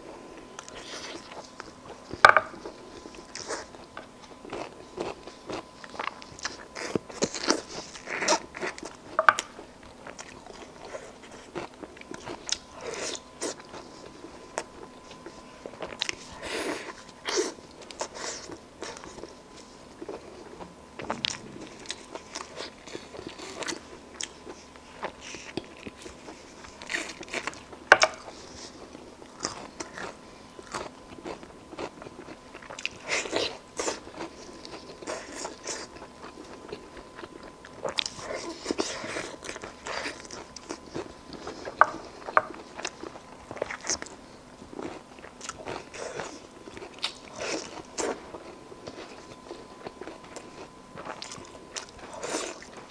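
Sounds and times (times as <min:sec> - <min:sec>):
person chewing meat: 0:00.0 - 0:52.9.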